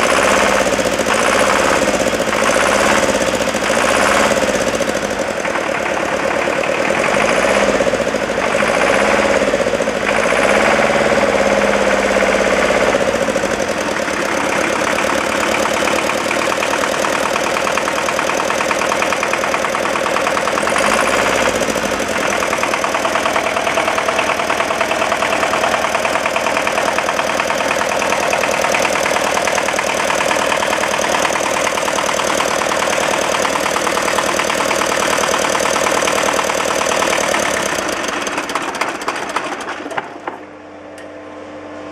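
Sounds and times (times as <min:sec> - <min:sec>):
diesel engine knocking and revving: 0:00.0 - 0:40.5.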